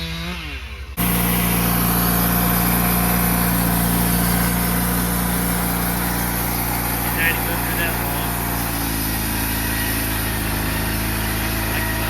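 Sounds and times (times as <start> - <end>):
band blade cutting log: 0.0 - 12.0
sawmill gas engine running: 0.0 - 12.0.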